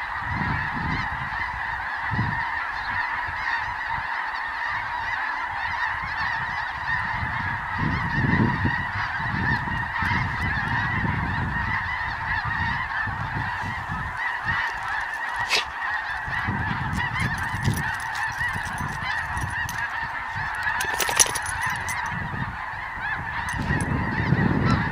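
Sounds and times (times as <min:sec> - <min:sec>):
flock of geese honking: 0:00.0 - 0:24.9.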